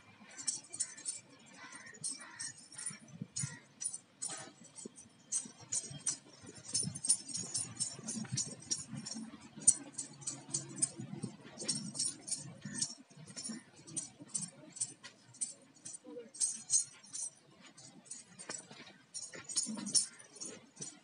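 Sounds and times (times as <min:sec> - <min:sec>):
anklets jingling: 0:00.0 - 0:21.0.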